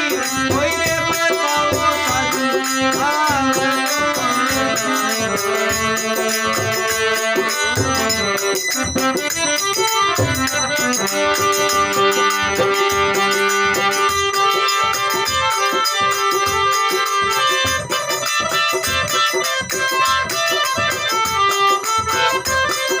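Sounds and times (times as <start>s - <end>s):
drum and rattle percussion: 0.0s - 23.0s
keyboard melody: 0.0s - 23.0s.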